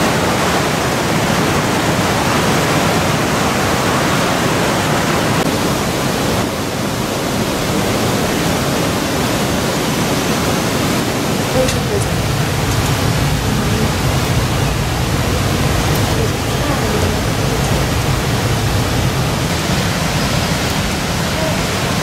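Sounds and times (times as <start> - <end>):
fast river rushing: 0.0 - 22.0.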